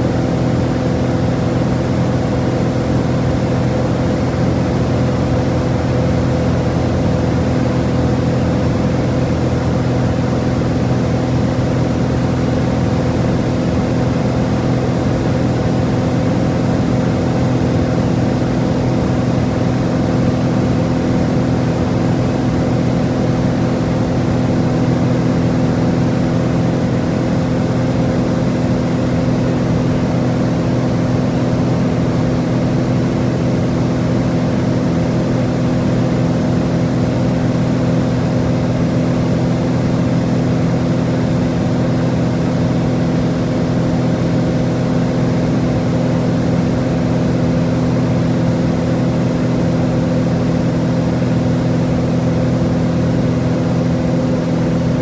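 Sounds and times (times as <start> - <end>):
propeller plane cabin drone: 0.0 - 55.0.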